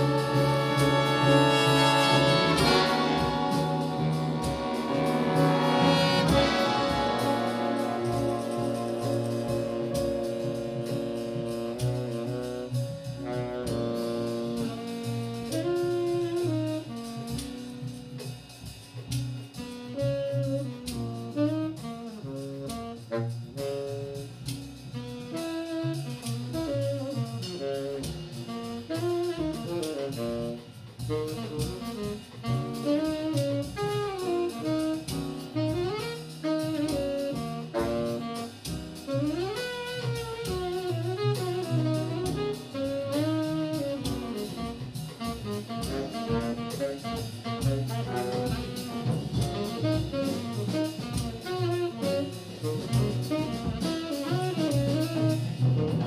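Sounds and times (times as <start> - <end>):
tenor saxophone solo: 0.0 - 18.3, 19.6 - 24.3, 25.0 - 56.0
jazz big band horn chords: 0.0 - 56.0
rhythm section: 0.0 - 56.0.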